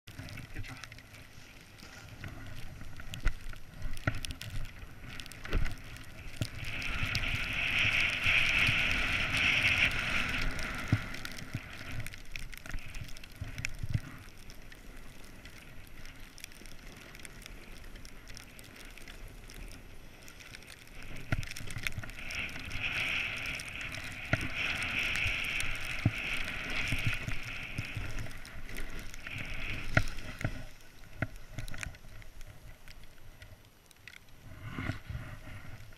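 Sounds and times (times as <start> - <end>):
wind rumbling on microphone: 0.0 - 33.6, 34.3 - 35.9
snowboard scraping over snow: 1.1 - 4.2, 4.8 - 16.0, 16.8 - 31.6, 34.4 - 35.9.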